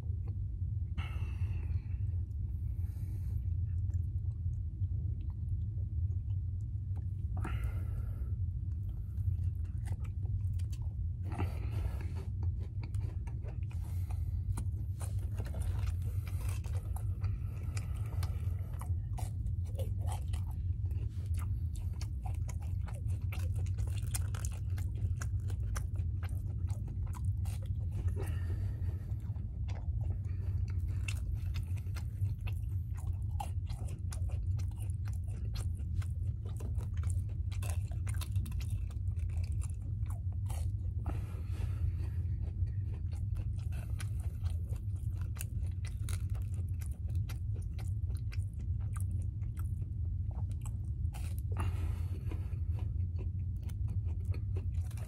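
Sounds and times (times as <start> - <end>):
steady low hum: 0.0 - 55.0
crisp chewing and biting: 3.7 - 55.0.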